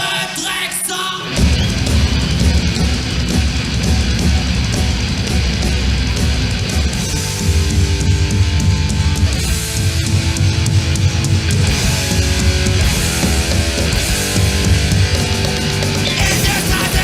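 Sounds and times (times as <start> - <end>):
thrash metal band playing live: 0.0 - 17.0.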